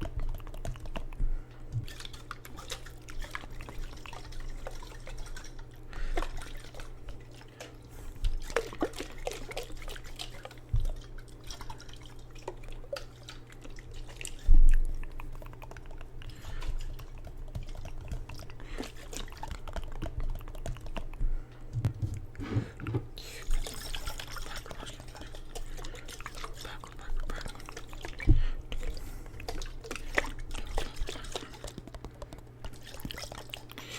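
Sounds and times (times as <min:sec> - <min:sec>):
water dripping and sloshing in jar: 0:00.0 - 0:22.3, 0:23.4 - 0:33.9.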